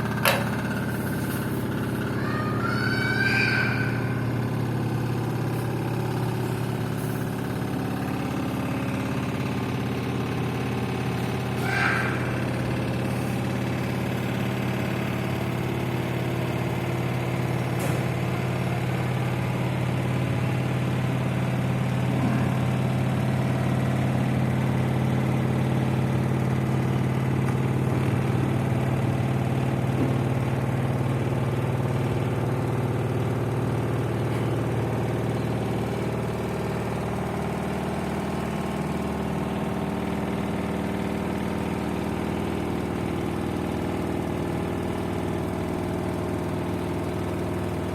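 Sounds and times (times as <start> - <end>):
washing machine spinning hum: 0.0 - 47.9.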